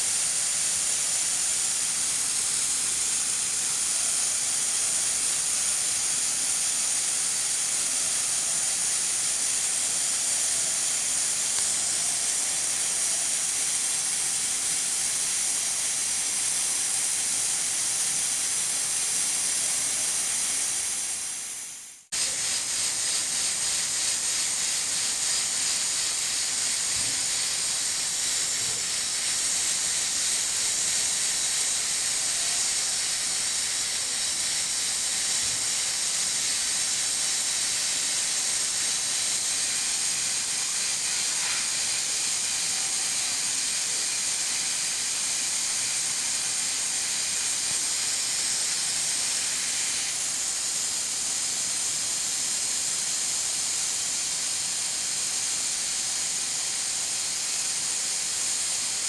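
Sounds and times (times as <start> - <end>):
pressure cooker steam hiss: 0.0 - 59.0.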